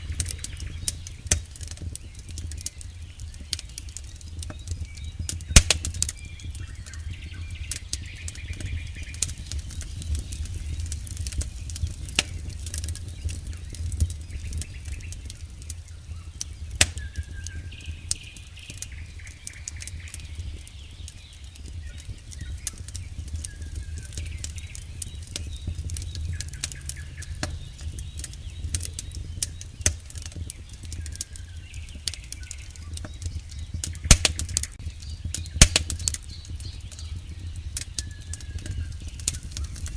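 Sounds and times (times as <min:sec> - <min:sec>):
flames fluttering: 0:00.0 - 0:39.9
wood crackling and popping: 0:00.0 - 0:39.9.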